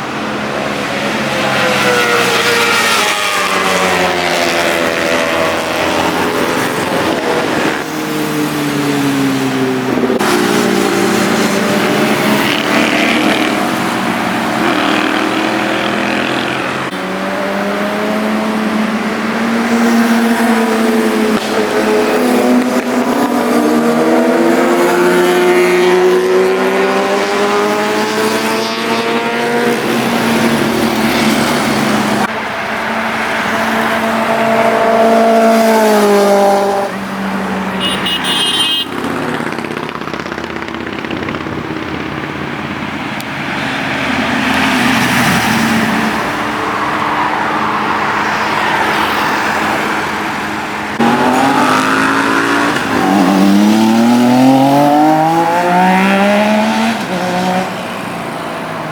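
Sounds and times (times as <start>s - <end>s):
superbike engines accelerating: 0.3s - 58.8s.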